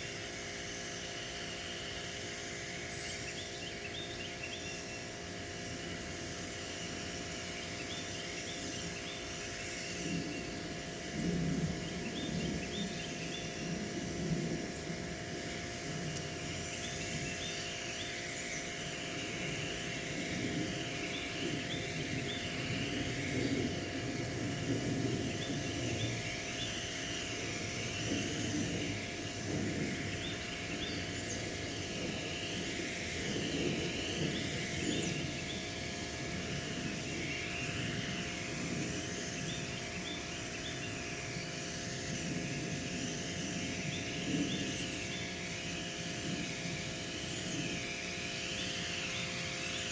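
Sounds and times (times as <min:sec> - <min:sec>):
pressure washer motor humming: 0:00.0 - 0:49.9
water spray hissing on concrete: 0:00.0 - 0:49.9.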